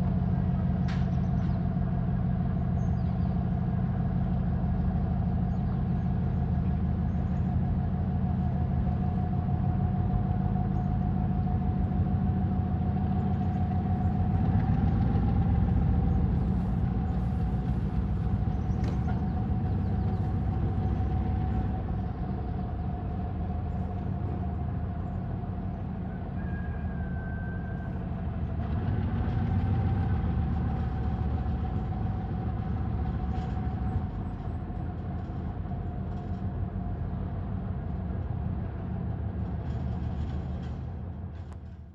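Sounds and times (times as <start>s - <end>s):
constant whine: 0.0s - 41.9s
diesel locomotive engine rumbling: 0.0s - 41.9s.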